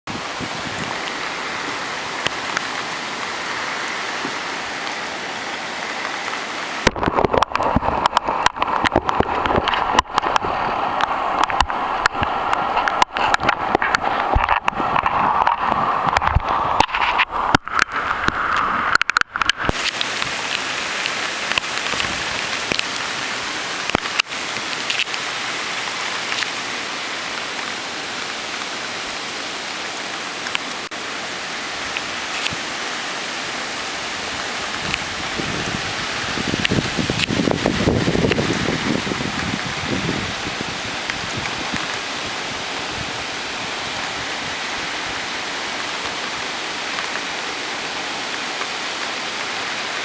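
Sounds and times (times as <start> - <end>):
heavy rain hissing: 0.1 - 50.0.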